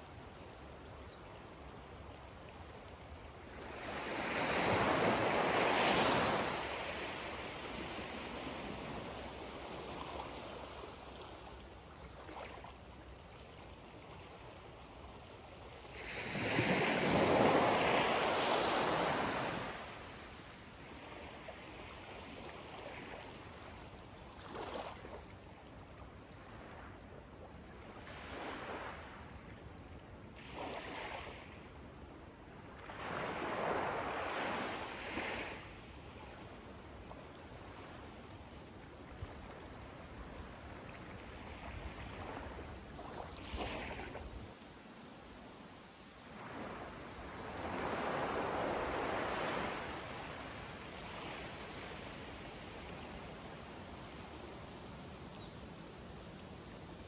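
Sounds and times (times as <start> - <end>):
small waves lapping on beach: 0.0 - 57.0.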